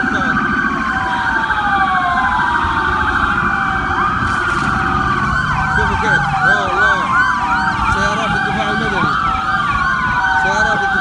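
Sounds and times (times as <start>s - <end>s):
fast siren yelp: 0.0s - 11.0s
siren wails: 0.0s - 11.0s.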